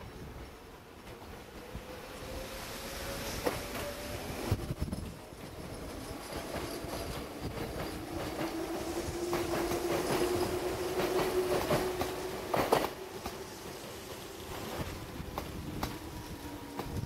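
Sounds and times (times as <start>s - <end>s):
train wheels clickety-clack: 3.2s - 17.0s.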